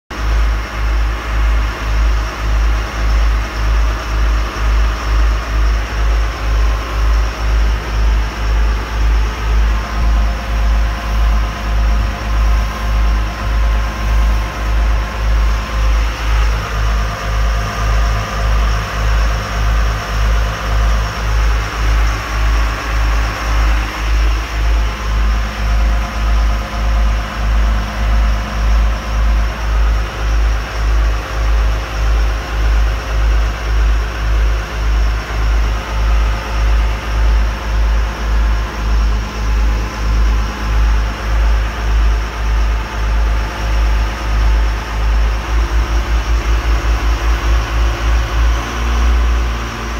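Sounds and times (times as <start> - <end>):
motorboat engine droning: 0.1 - 49.9.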